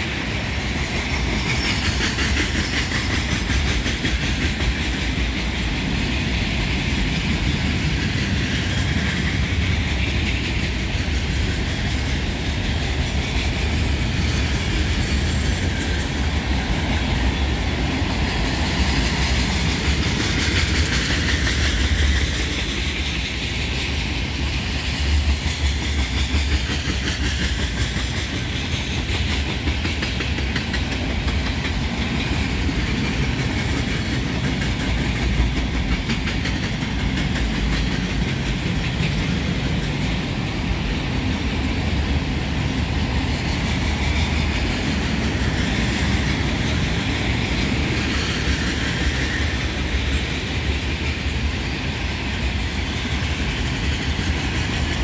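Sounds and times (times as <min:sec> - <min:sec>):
freight train rumble and hiss: 0:00.0 - 0:55.0
wheels clattering on rails: 0:00.0 - 0:55.0.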